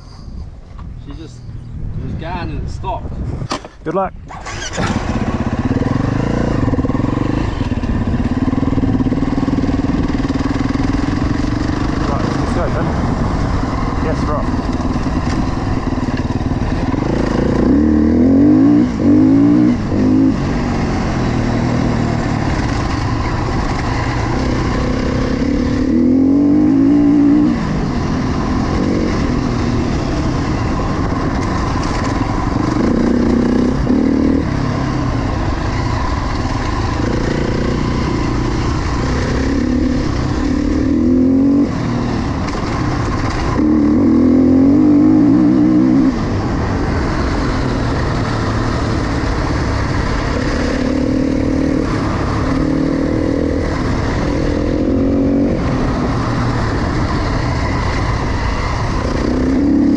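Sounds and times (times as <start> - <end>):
dirt bike engine revving: 4.3 - 59.9.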